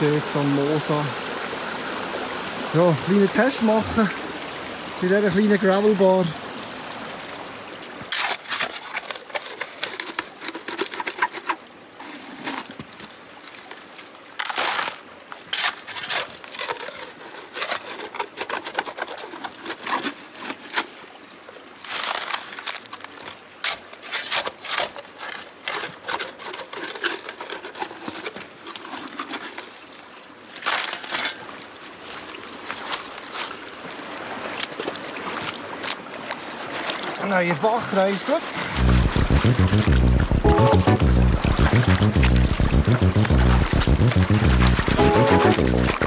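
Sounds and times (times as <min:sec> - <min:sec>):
faint creek running: 0:00.0 - 0:46.0.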